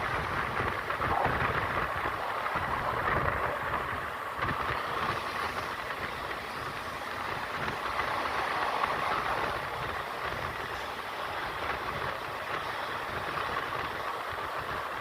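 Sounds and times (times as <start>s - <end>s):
train coach rushing rumble: 0.0s - 15.0s.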